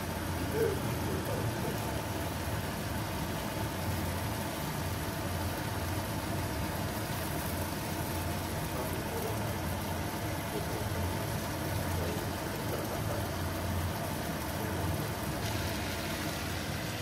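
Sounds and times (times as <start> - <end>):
omelette frying in a pan: 0.0 - 17.0.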